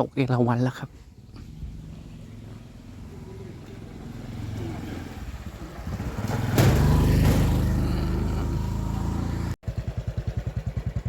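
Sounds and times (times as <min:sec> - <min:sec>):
motorcycle engine running: 0:01.4 - 0:11.0.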